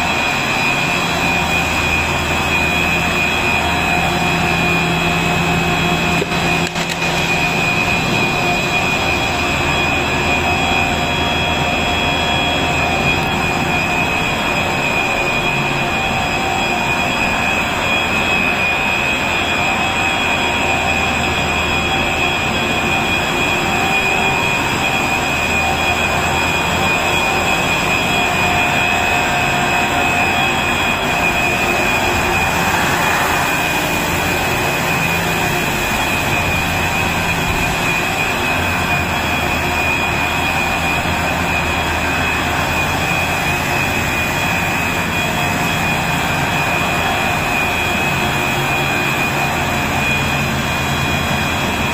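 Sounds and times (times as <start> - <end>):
high-pitched whines: 0.0 - 51.9
loud machinery noise: 0.0 - 51.9.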